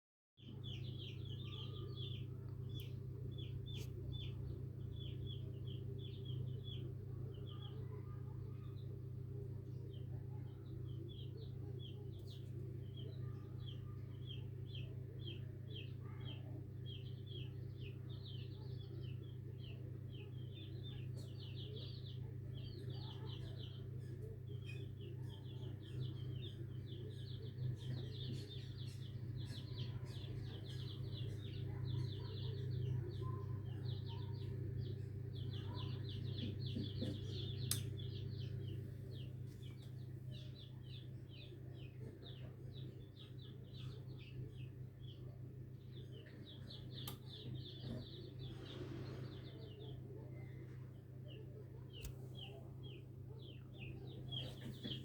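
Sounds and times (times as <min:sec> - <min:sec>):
chicks peeping: 0:00.5 - 0:55.0
steady low hum: 0:00.5 - 0:55.0.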